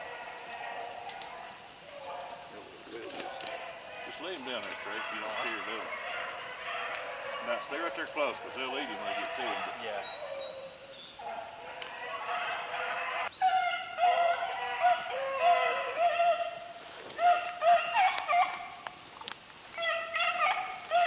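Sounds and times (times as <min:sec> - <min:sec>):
dogs baying: 0:00.0 - 0:19.0, 0:19.7 - 0:21.0.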